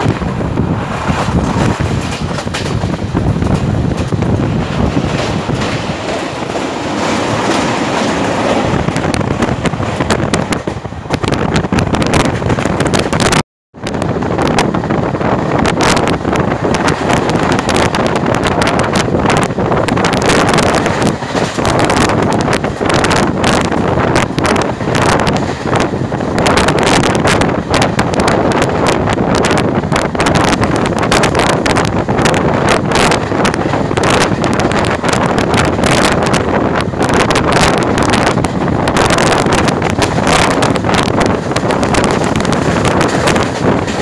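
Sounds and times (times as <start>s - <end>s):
train wheels clattering on rails: 0.0s - 44.0s
wind on microphone: 0.0s - 44.0s.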